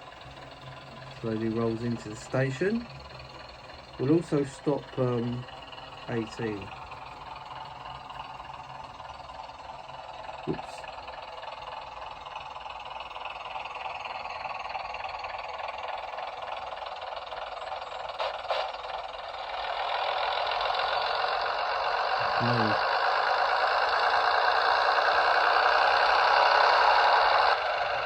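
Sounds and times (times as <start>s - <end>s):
model train engine revving: 0.0s - 28.0s.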